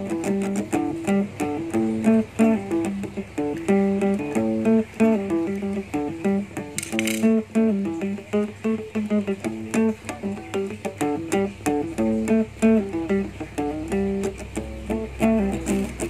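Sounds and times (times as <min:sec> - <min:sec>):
plucked guitar: 0:00.0 - 0:16.0.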